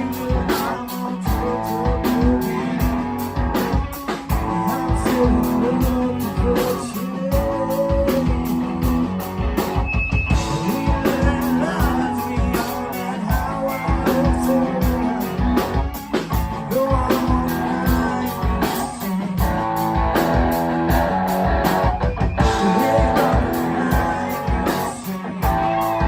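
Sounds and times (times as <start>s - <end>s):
drums keeping a steady beat: 0.0s - 26.0s
live rock band playing: 0.0s - 26.0s.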